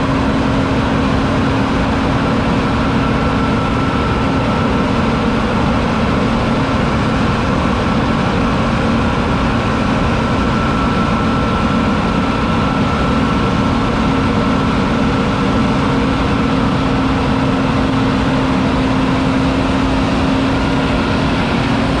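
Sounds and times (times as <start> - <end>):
combine harvester engine drone: 0.0 - 22.0
steady high whine: 0.0 - 22.0.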